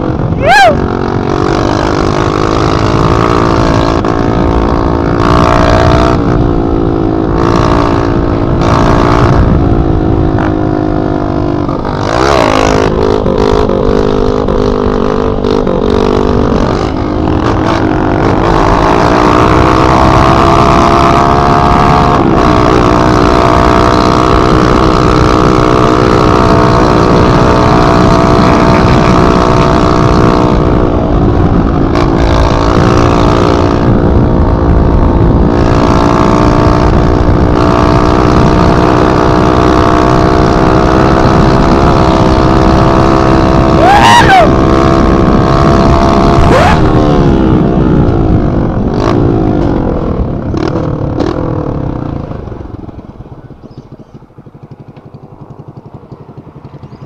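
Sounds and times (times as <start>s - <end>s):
motorcycle engine running loud: 0.0s - 57.0s.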